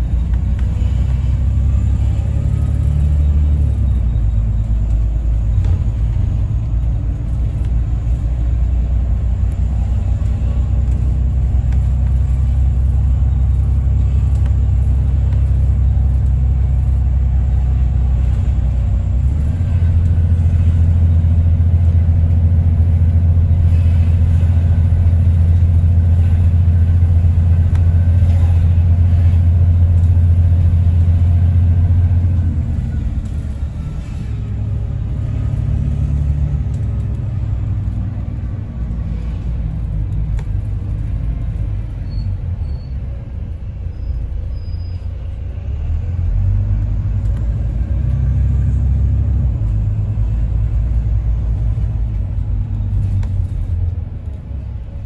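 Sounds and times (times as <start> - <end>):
bus engine droning: 0.0 - 55.0
faint transmission whine: 0.0 - 55.0.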